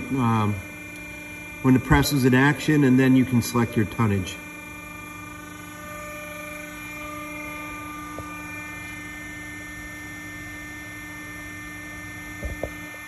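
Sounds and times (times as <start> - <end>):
hydraulic press hum: 0.0 - 13.0.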